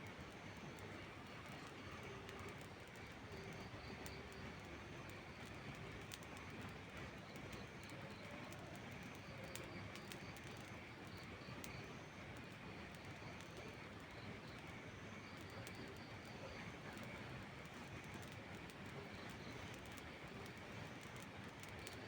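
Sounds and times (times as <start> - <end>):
steady rain hiss: 0.0 - 22.0
wood fire crackling: 0.0 - 22.0.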